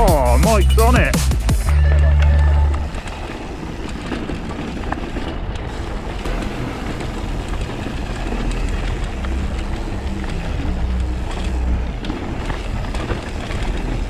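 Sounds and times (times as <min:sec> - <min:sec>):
tyres rolling on gravel: 0:00.0 - 0:14.0
bike clicks and rattles: 0:01.6 - 0:14.0.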